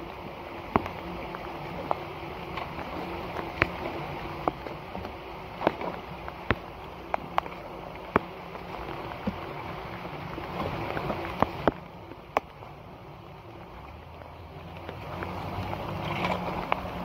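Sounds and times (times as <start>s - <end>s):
water gurgling through wet leaves: 0.0s - 17.0s
wet leaves clicking and knocking: 0.0s - 17.0s.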